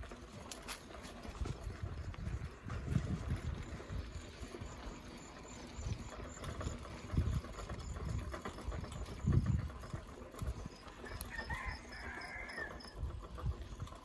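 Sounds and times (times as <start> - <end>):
bicycle thumps and rattles: 0.0 - 14.0.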